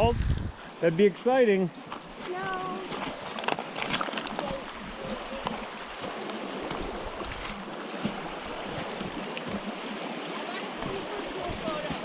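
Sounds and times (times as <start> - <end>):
meltwater rushing: 0.0 - 12.0.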